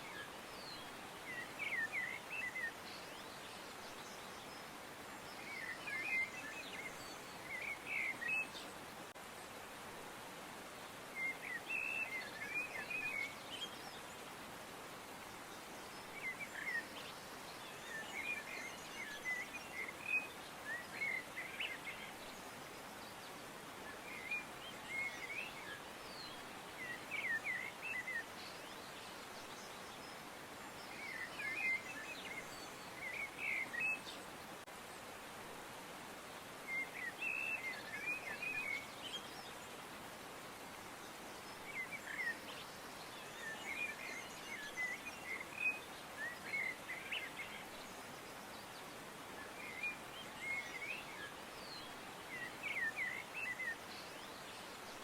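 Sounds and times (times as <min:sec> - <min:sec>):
songbirds chirping: 0:00.0 - 0:55.0
steady background hiss: 0:00.0 - 0:55.0.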